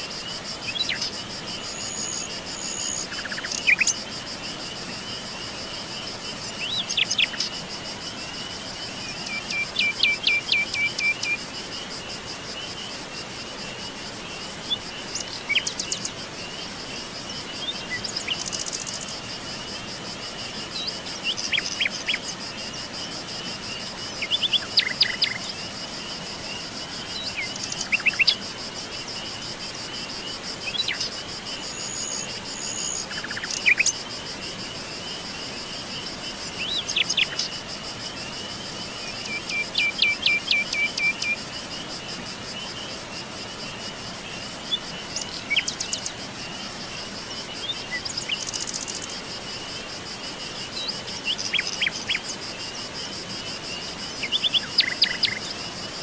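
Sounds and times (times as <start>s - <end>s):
high-pitched insect trill: 0.0s - 56.0s.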